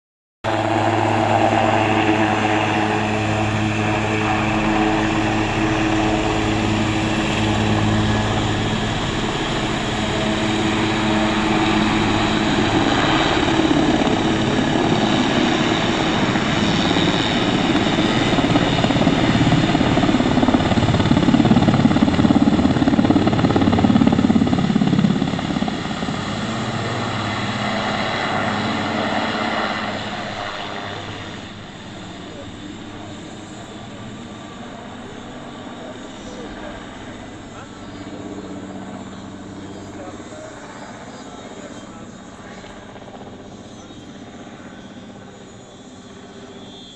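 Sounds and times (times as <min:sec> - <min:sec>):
helicopter turbine and rotor noise: 0:00.4 - 0:46.9.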